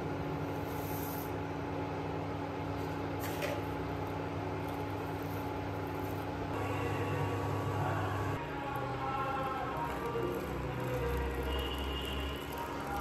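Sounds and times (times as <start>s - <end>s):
low machine hum: 1.5s - 13.0s.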